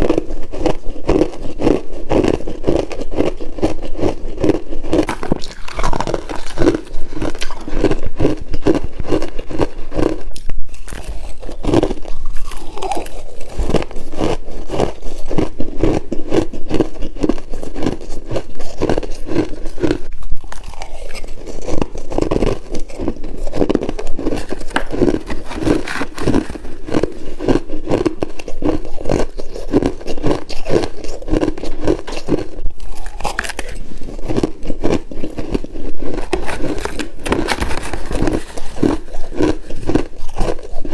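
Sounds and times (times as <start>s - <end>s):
frost being chewed crunching: 0.0s - 40.9s.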